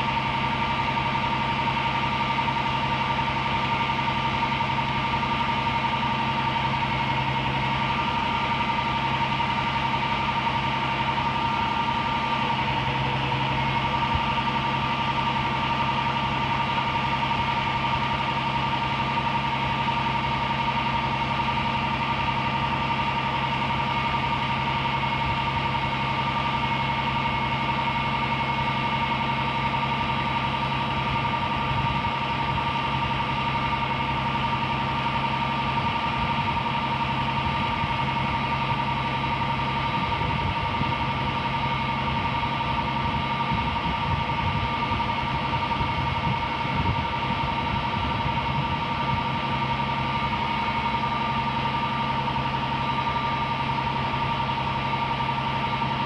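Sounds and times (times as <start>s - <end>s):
fire truck engine running: 0.0s - 56.0s
steady high whine: 0.0s - 56.0s.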